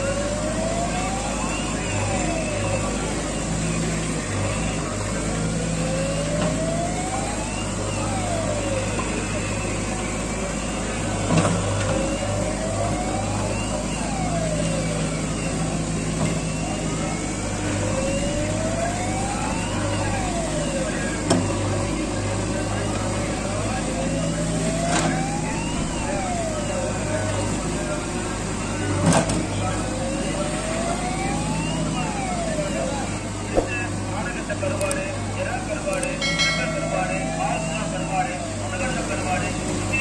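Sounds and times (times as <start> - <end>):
diesel engine under load: 0.0 - 40.0.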